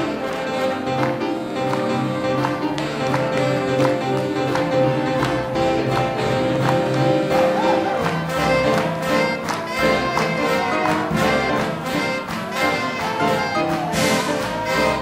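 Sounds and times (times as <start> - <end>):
big band swing jazz: 0.0 - 15.0
brass section: 0.0 - 15.0.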